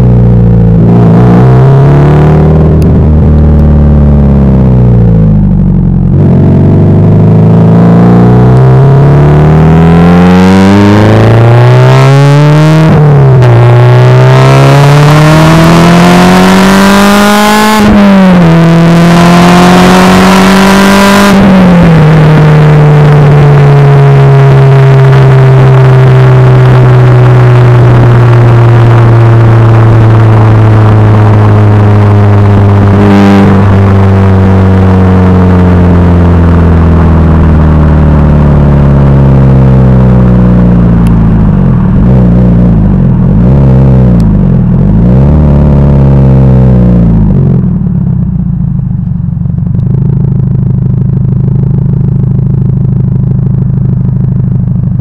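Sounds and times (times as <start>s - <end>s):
car exhaust revving with upshifts: 0.0s - 55.0s.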